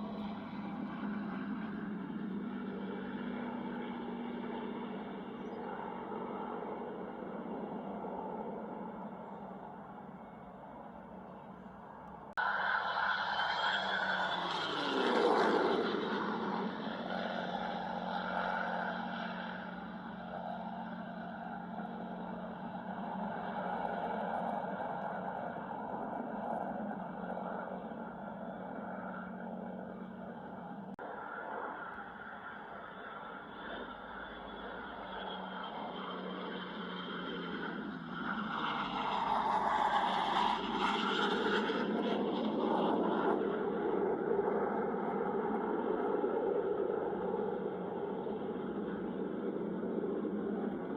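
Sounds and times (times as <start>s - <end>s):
aircraft flying past: 0.0s - 50.9s
jet fighter engines roaring: 0.0s - 50.9s.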